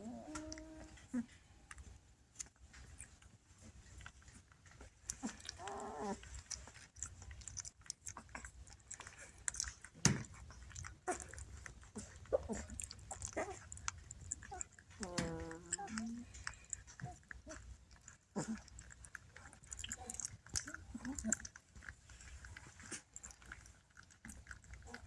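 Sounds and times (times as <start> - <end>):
dog vocalization: 0.0 - 2.0, 2.8 - 25.0
dog chewing and smacking: 0.0 - 25.0.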